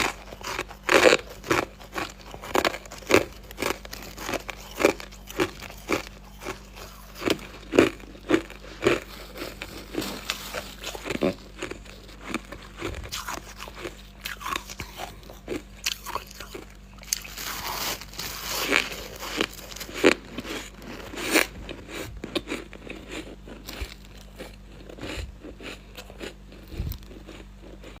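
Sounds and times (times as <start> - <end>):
crunching and chewing ice: 0.0 - 28.0.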